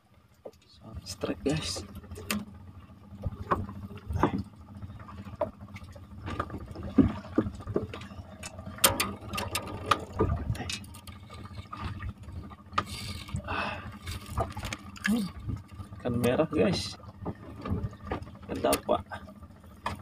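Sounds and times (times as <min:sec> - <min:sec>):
knocks and clatter on wooden boat: 0:00.2 - 0:20.0.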